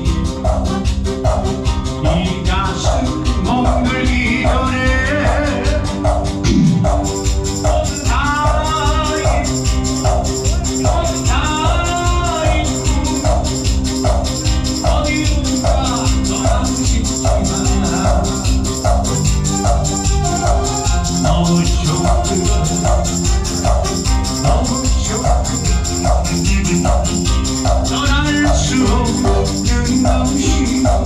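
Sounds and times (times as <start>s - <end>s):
electronic organ dance music: 0.0s - 31.0s.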